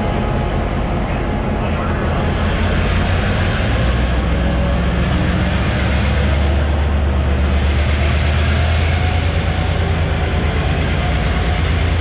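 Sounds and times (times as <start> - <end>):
diesel locomotive engine under load: 0.0 - 12.0.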